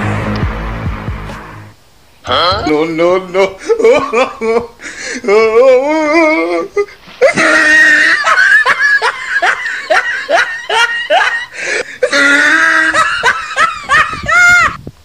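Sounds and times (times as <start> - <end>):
person laughing and squealing: 2.3 - 14.8.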